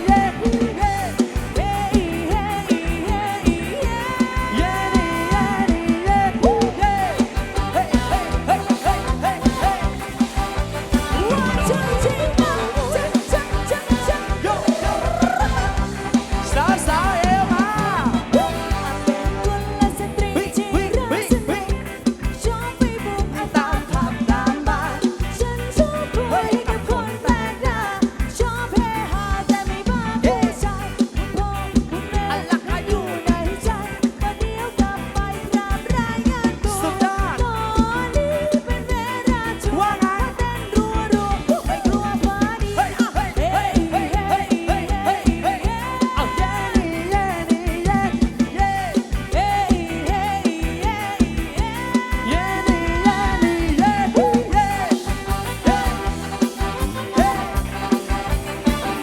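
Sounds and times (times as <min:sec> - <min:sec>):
fast heavy drum beat: 0:00.0 - 0:59.0
person singing: 0:00.0 - 0:59.0.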